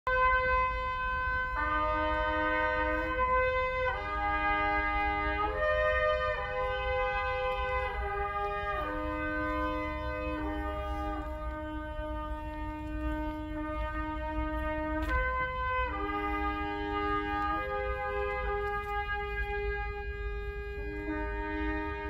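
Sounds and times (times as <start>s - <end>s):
slow brass chords: 0.1s - 22.0s.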